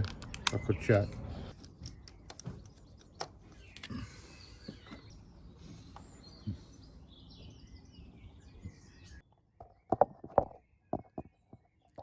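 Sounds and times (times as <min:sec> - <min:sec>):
birds chirping: 0:00.0 - 0:12.0
steady outdoor hush: 0:00.0 - 0:12.0.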